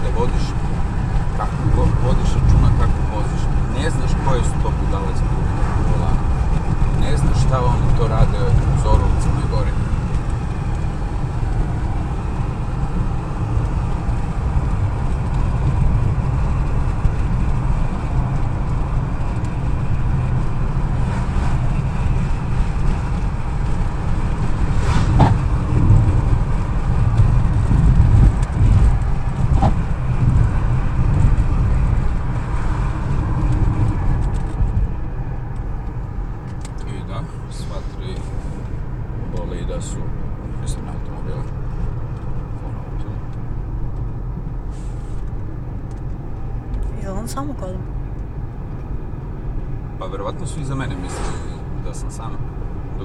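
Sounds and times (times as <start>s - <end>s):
car cabin road rumble: 0.0s - 53.0s.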